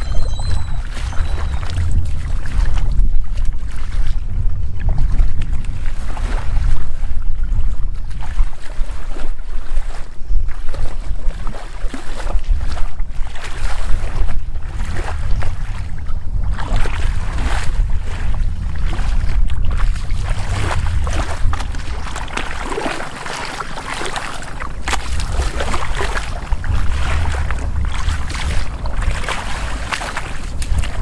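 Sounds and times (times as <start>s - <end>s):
wading through muddy water: 0.0s - 31.0s
wind rumbling on microphone: 0.0s - 31.0s.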